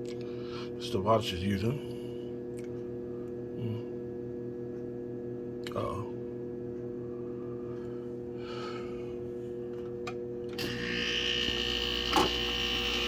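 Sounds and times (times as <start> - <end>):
air conditioner humming: 0.0 - 13.0
running noise with high whine: 0.0 - 13.0.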